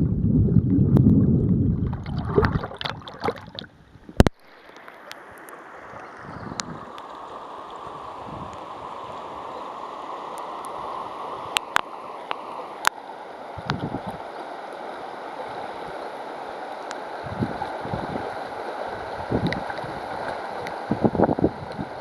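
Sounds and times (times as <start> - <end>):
low water gurgles: 0.0 - 22.0
river babbling over stones: 2.0 - 22.0.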